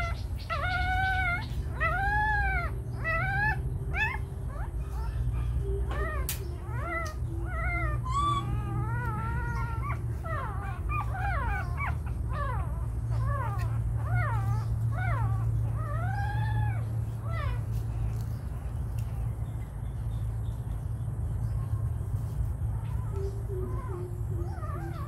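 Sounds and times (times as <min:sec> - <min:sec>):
young animal whimpering: 0:00.0 - 0:19.1, 0:21.4 - 0:25.0
low steady hum: 0:00.0 - 0:25.0.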